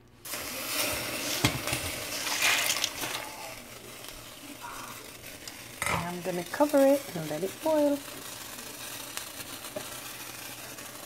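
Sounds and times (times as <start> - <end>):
boiling pot hissing: 0.0 - 11.0
beans pouring into water: 0.3 - 11.0.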